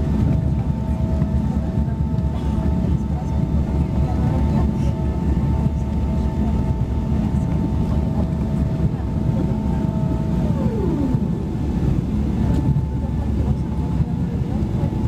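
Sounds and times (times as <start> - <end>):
jet engine low rumble: 0.0 - 15.0
steady whine: 0.0 - 15.0.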